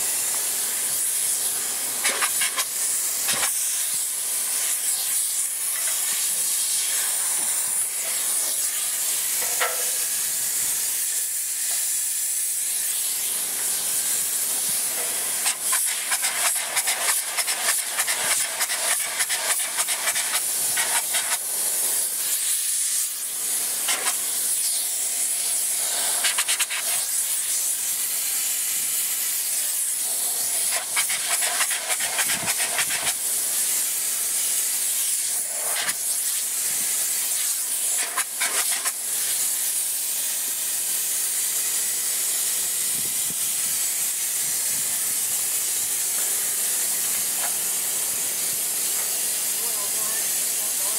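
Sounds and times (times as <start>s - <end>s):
spray foam gun hissing: 0.0s - 50.9s.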